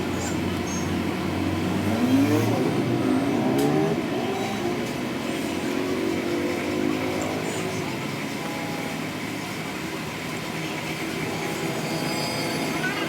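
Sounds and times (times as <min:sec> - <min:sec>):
steady noisy background: 0:00.0 - 0:13.0.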